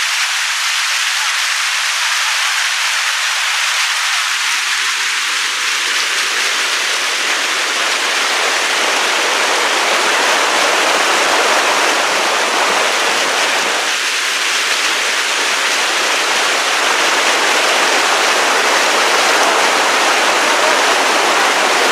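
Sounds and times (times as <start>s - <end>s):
river rushing over boulders: 0.0s - 21.9s.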